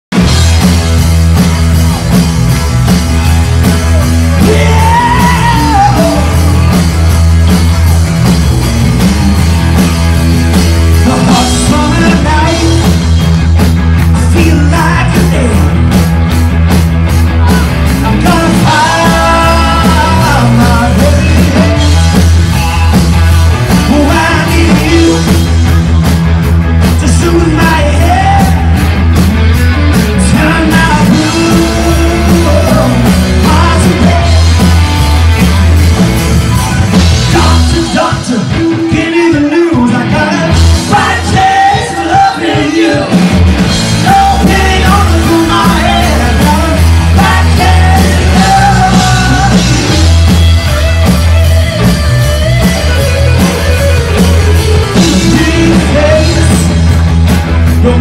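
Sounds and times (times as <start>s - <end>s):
bass guitar: 0.0s - 58.0s
drums: 0.0s - 58.0s
electric guitars: 0.1s - 58.0s
lead vocals: 3.1s - 8.0s, 10.3s - 16.0s, 17.2s - 26.0s, 26.8s - 29.1s, 30.0s - 35.6s, 36.4s - 51.3s, 52.3s - 58.0s.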